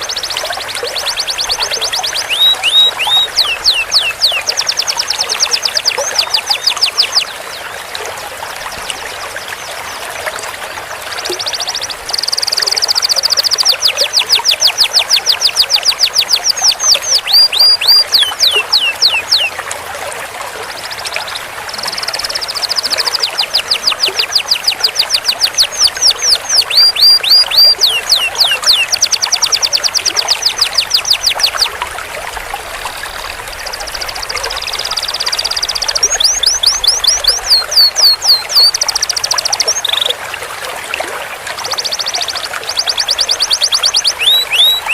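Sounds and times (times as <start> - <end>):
canary singing rolling trills: 0.0 - 7.4, 11.2 - 19.6, 20.8 - 31.7, 33.6 - 40.2, 41.7 - 44.9.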